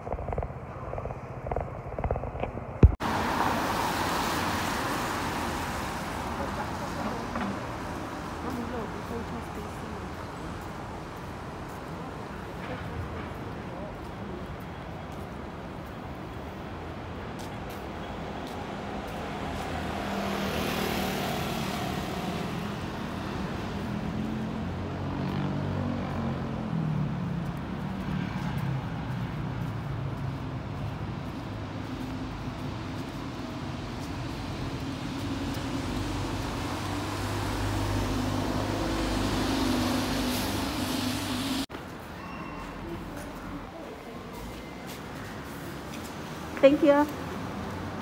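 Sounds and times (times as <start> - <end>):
cars driving past: 2.9 - 13.5, 17.0 - 48.0.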